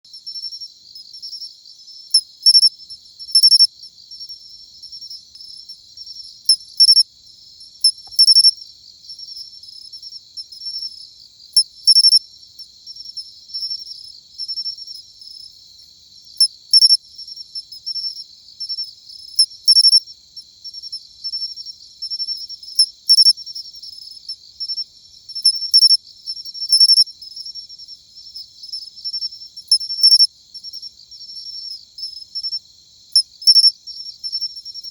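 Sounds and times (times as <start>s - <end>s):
cricket high chirps: 0.1s - 34.9s.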